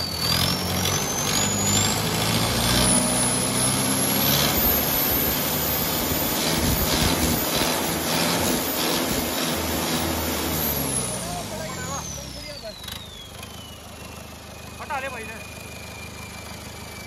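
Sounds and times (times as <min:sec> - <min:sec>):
diesel engine running: 0:00.0 - 0:17.0
turbocharger whistle: 0:00.0 - 0:17.0.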